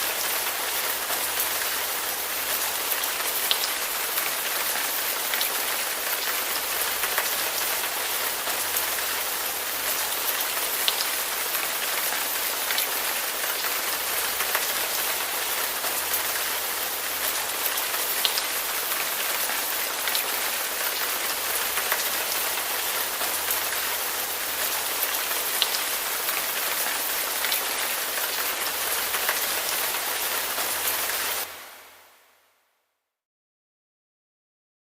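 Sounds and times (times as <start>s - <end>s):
steady rain falling: 0.0s - 32.7s.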